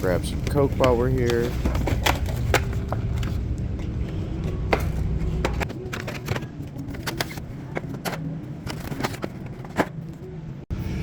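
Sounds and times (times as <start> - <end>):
drink cases clicking and knocking: 0.0 - 10.0.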